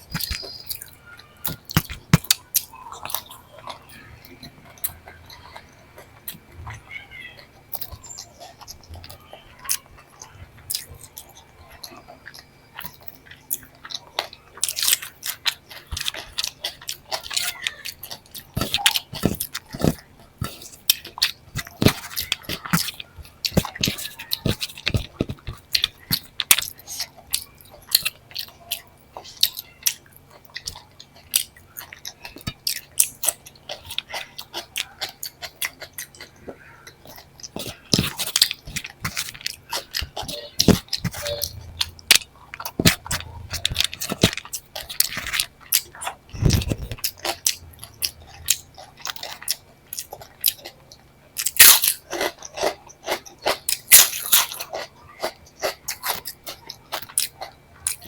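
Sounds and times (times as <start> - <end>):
person chewing food: 0.0 - 58.0
crunchy bites: 7.7 - 58.0.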